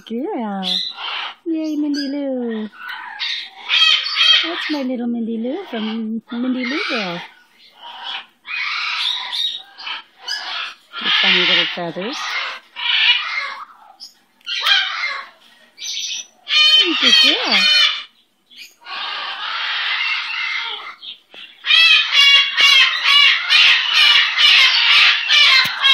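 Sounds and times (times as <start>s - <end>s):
cockatoo squawking: 0.0s - 4.8s, 5.6s - 25.9s.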